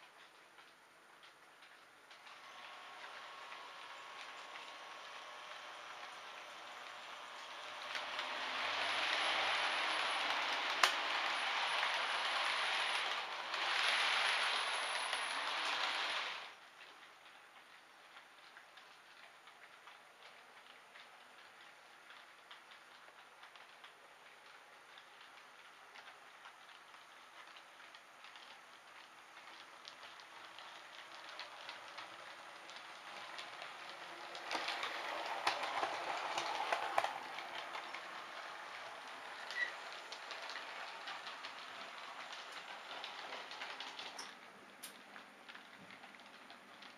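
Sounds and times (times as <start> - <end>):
model train wheels rattling: 0.0 - 46.9
model train motor noise: 2.1 - 16.6, 21.6 - 44.9.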